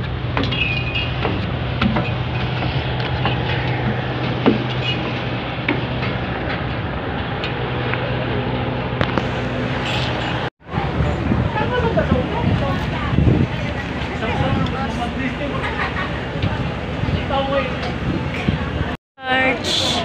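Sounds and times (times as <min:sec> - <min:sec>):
ship engine droning: 0:00.0 - 0:20.0
water noise: 0:00.0 - 0:20.0
wind: 0:00.0 - 0:20.0.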